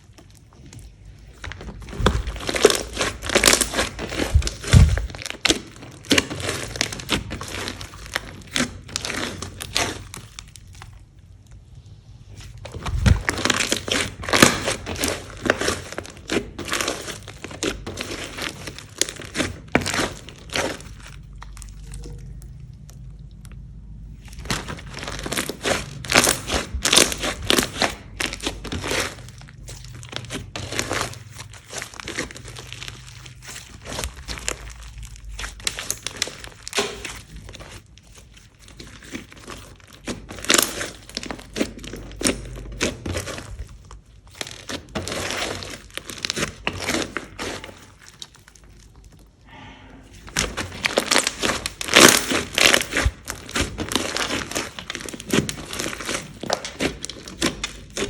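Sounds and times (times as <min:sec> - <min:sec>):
slime squishing and crackling: 0:00.0 - 0:58.0.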